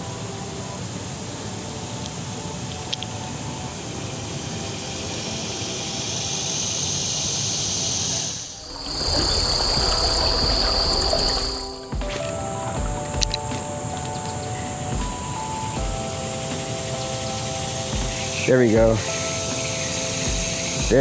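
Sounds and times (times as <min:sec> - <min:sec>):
constant hiss: 0:00.0 - 0:21.0
insects buzzing: 0:00.0 - 0:21.0.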